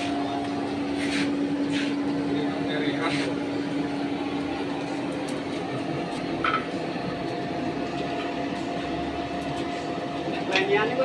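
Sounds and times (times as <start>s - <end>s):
blower whooshing hum: 0.0s - 11.0s.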